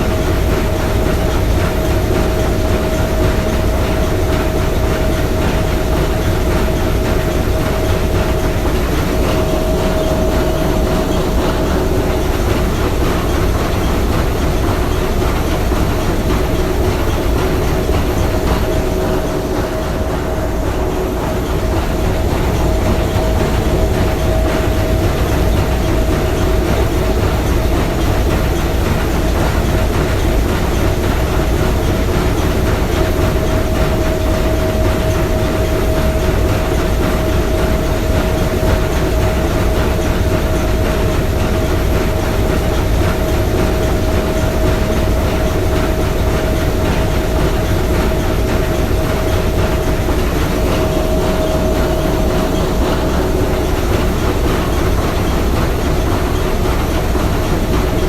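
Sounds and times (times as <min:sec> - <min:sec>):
constant hum: 0:00.0 - 0:58.0
steam engine clattering: 0:00.0 - 0:58.0.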